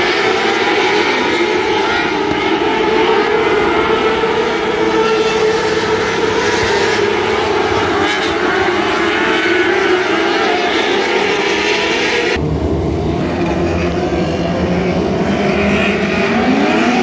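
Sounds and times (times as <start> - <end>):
racing engines high-revving drone: 0.0 - 17.0.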